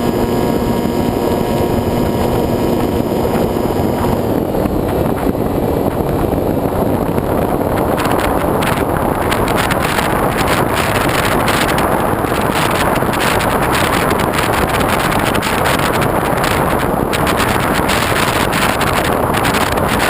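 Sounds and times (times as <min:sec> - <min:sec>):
wind hiss on microphone: 0:00.0 - 0:20.0.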